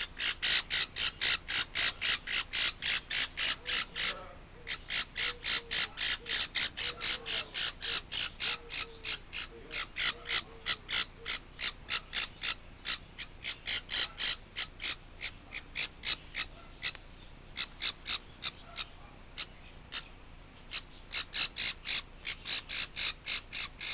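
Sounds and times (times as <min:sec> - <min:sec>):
parrot chick squawking: 0:00.0 - 0:17.0, 0:17.6 - 0:23.9.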